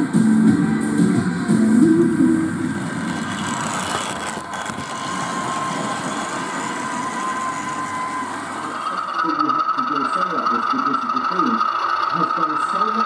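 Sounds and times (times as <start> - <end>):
model locomotive running: 0.0 - 13.0.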